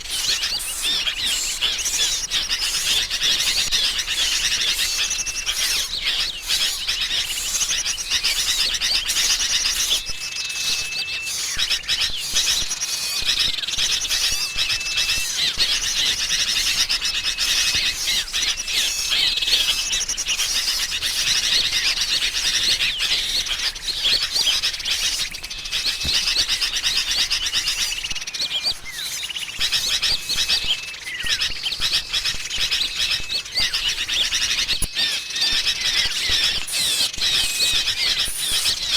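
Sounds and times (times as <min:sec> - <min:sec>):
birds chattering and twittering: 0:00.0 - 0:38.9.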